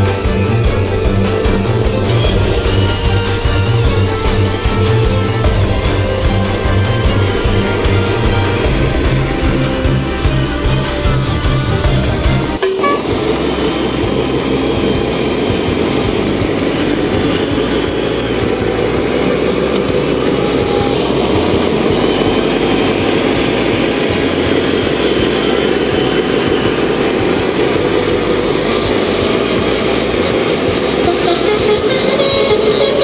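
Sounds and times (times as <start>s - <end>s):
model truck electric motor whirring: 0.0s - 33.0s.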